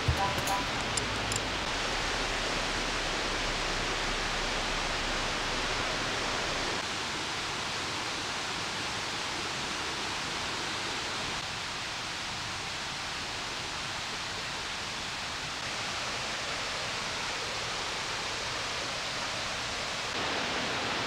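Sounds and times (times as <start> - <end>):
forest ambience rushing noise: 0.0 - 21.0.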